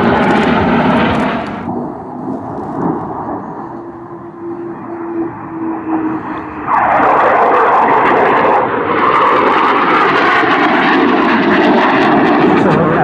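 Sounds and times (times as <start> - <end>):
jet engine whine: 0.0 - 13.0.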